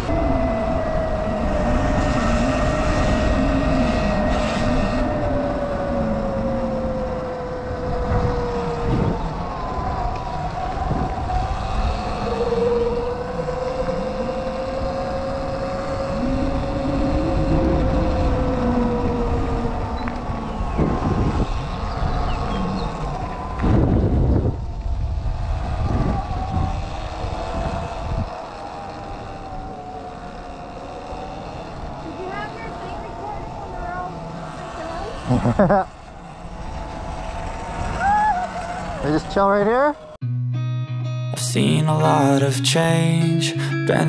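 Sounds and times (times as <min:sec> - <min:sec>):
electric motor whining: 0:00.0 - 0:40.2
wind rumble on microphone: 0:00.0 - 0:40.2.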